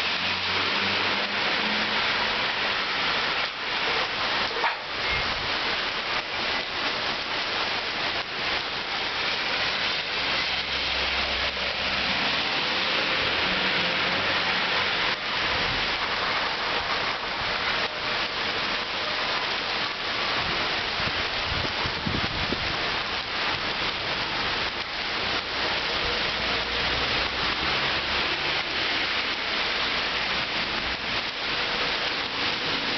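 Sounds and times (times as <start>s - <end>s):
heavy rain on hard surfaces: 0.0s - 32.9s.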